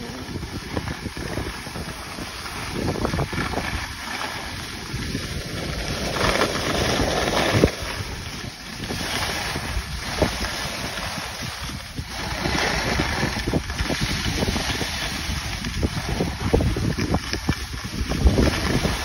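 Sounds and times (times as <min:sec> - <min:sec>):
skis scraping on snow: 0:00.0 - 0:19.0
wind buffeting microphone: 0:00.0 - 0:19.0.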